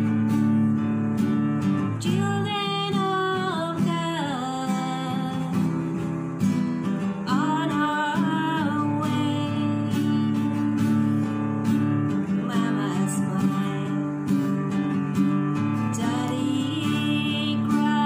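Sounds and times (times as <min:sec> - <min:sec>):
acoustic guitar strumming: 0:00.0 - 0:18.0
woman singing: 0:01.8 - 0:06.3, 0:06.9 - 0:18.0.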